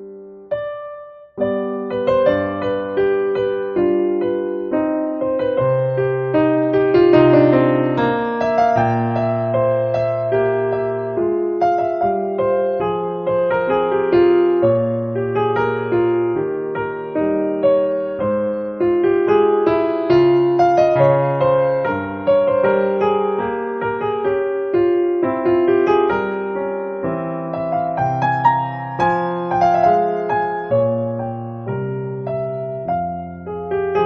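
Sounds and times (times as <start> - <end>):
electric piano music: 0.0 - 34.0.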